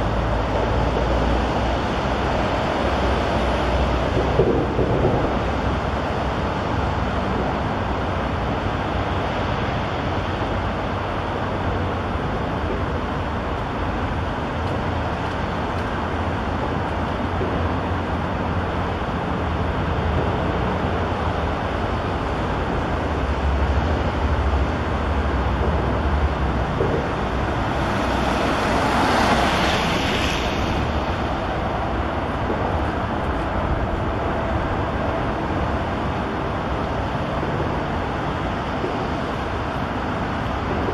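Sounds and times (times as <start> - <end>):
highway traffic noise: 0.0 - 40.9.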